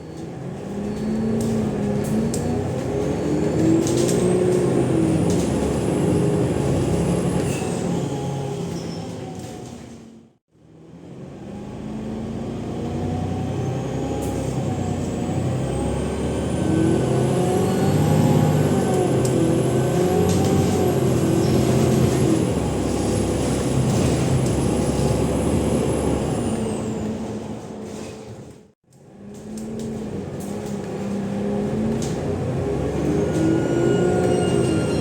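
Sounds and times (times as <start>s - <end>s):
bus diesel engine accelerating: 0.0s - 35.0s.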